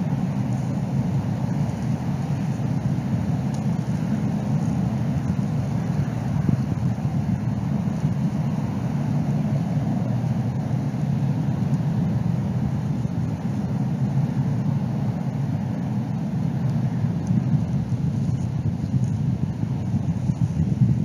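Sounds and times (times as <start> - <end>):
low rumbling wind noise: 0.0 - 21.0.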